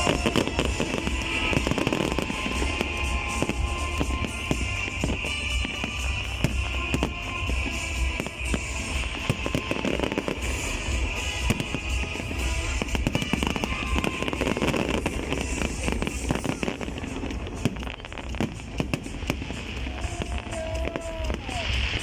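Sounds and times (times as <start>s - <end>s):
fireworks bursts and bangs: 0.0s - 22.0s
fireworks crackling: 0.0s - 22.0s
music: 0.0s - 22.0s.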